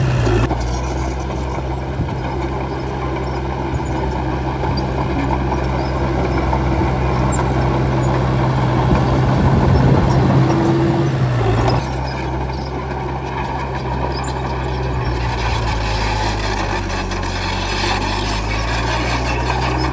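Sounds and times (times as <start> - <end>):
bulldozer diesel engine running: 0.0 - 19.9.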